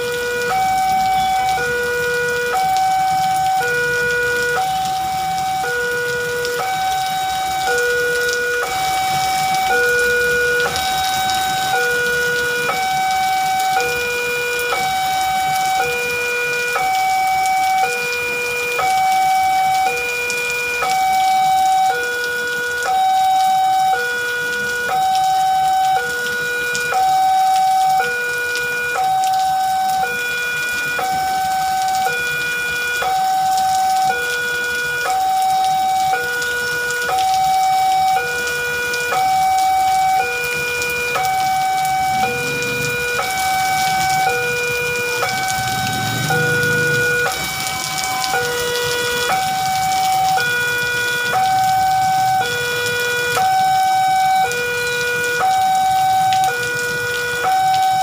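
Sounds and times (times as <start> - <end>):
heavy rain hissing: 0.0 - 58.0
level crossing two-tone alarm: 0.0 - 58.0.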